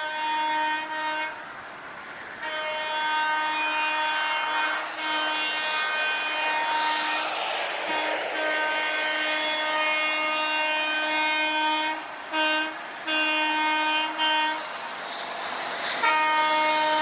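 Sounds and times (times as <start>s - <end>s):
train horn blasts: 0.0s - 1.5s, 2.4s - 14.7s, 16.0s - 17.0s
train running noise: 0.0s - 17.0s.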